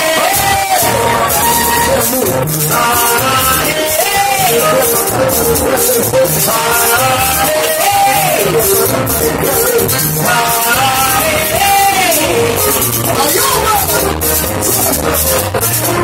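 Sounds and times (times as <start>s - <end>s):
congas: 0.0s - 16.0s
latin dance band playing: 0.0s - 16.0s
person singing: 0.0s - 16.0s.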